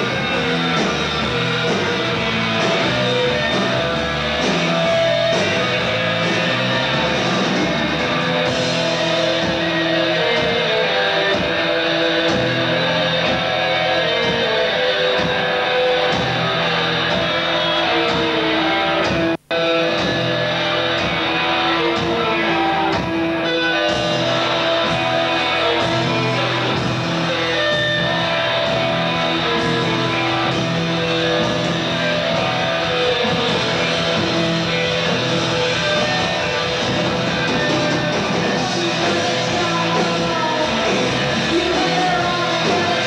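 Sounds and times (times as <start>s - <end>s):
drums: 0.0s - 43.0s
electric guitar: 0.0s - 43.0s.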